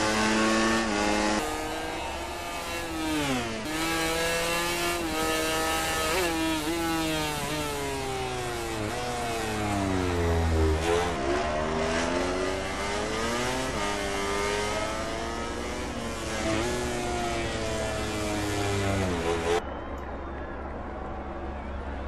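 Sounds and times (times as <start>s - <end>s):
racing motorcycle engines: 0.0s - 22.0s.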